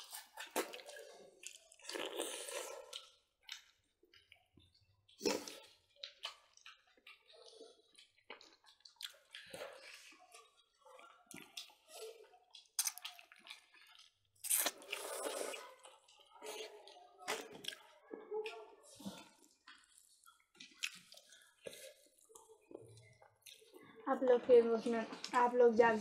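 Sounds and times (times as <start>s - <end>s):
people chewing and lip-smacking: 0.0s - 24.2s, 25.0s - 25.4s.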